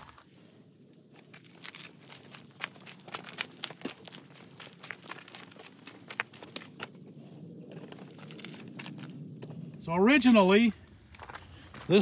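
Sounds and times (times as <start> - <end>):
footsteps on gravel: 0.0 - 0.3, 1.1 - 12.0.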